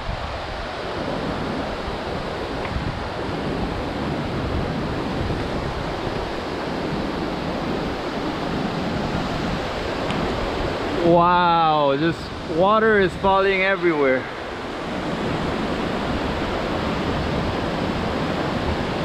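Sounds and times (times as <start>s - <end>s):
wind buffeting microphone: 0.0s - 19.0s
waterfall rushing: 0.2s - 19.0s.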